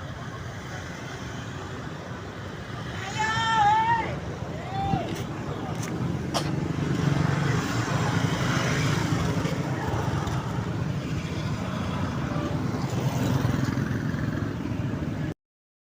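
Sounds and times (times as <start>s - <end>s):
vehicle engines running: 0.0s - 15.3s
road noise: 0.0s - 15.4s.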